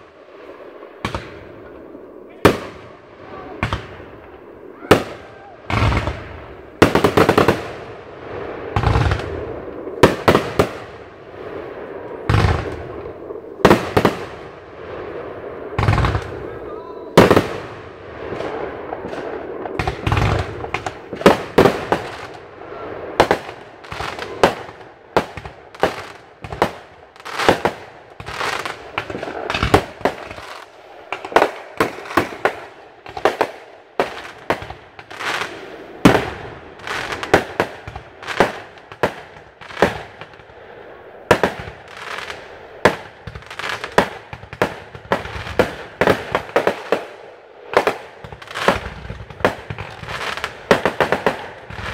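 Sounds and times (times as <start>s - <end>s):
fireworks bangs: 0.0s - 51.9s
fireworks crackling: 0.0s - 51.9s.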